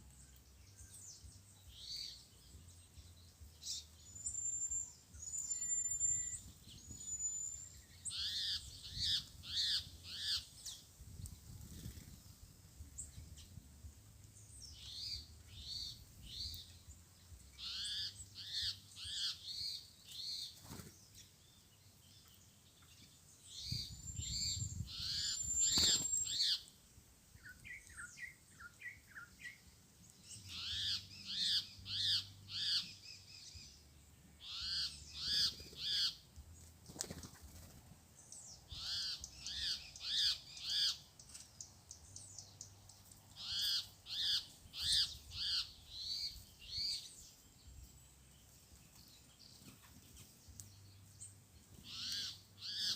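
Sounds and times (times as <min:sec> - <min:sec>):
birds singing whistled notes: 0:00.0 - 0:13.6, 0:14.3 - 0:52.9.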